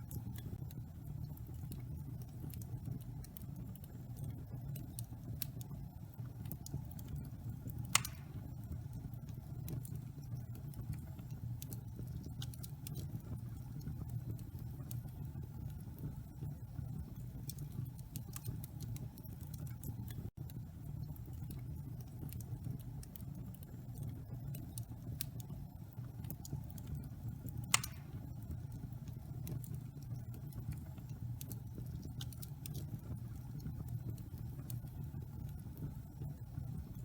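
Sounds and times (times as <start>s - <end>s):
fire crackling and popping: 0.0s - 37.0s
fire rumbling in fireplace: 0.0s - 37.0s.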